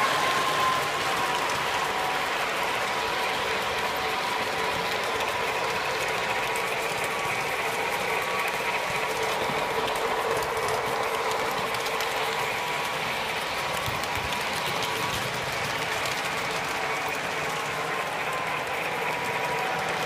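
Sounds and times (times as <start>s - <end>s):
model train motor whine: 0.0s - 20.0s
wheels rattling with clicks: 0.0s - 20.0s.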